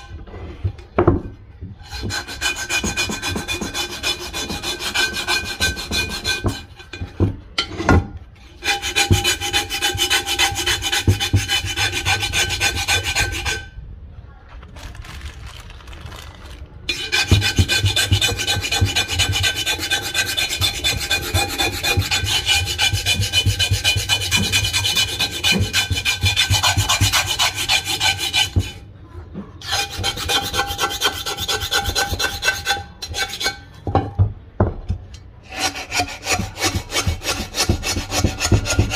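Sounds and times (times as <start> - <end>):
metal blade scraping cast iron pot: 1.8 - 13.8, 16.9 - 28.8, 29.6 - 34.0, 35.4 - 38.9.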